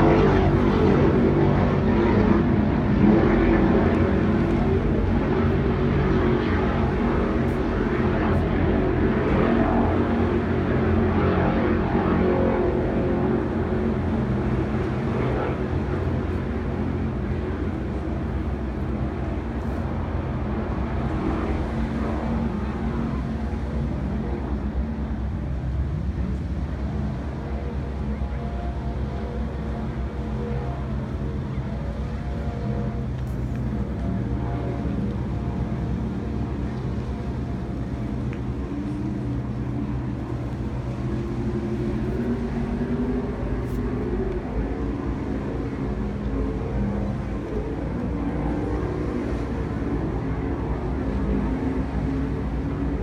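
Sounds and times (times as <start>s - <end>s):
powerboat engines droning: 0.0s - 53.0s.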